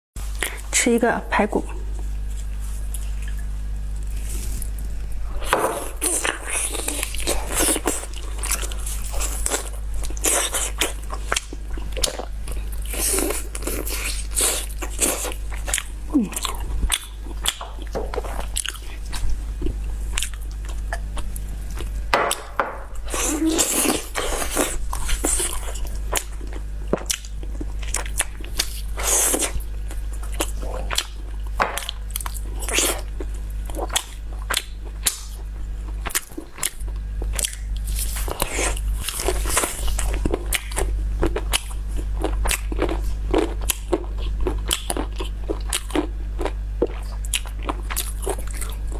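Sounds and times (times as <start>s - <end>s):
steady low hum: 0.2s - 48.9s
crunching and wet chewing: 2.0s - 48.9s.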